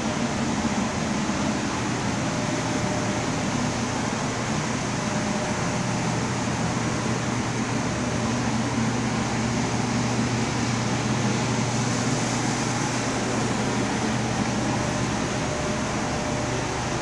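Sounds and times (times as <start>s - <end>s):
ventilation fans whirring: 0.0s - 17.0s.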